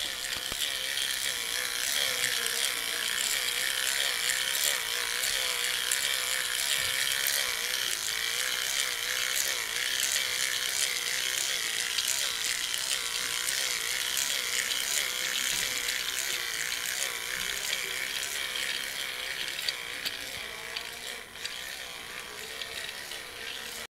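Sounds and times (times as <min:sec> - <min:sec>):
toy train motor whine: 0:00.0 - 0:23.9.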